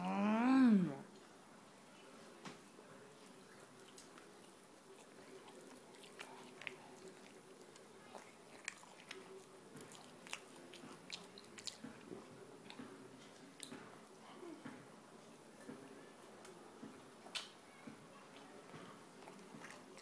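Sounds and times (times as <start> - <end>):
faint wet chewing: 3.1 - 20.0.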